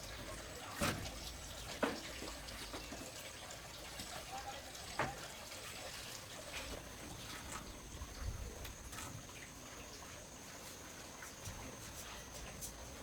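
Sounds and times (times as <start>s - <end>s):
faint trickling water: 0.0s - 13.0s.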